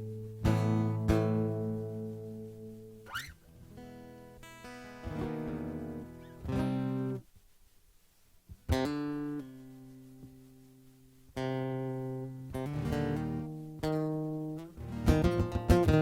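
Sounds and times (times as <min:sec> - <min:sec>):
guitar strumming chords: 0:00.0 - 0:07.2, 0:08.7 - 0:10.5, 0:11.3 - 0:16.0.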